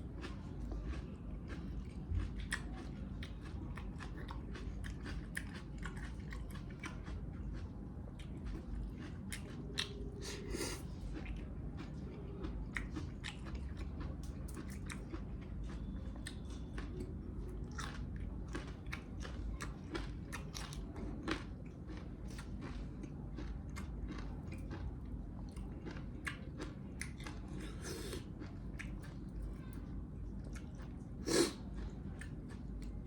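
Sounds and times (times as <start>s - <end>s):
wet chewing and mouth smacks: 0.2s - 11.9s, 12.6s - 29.4s.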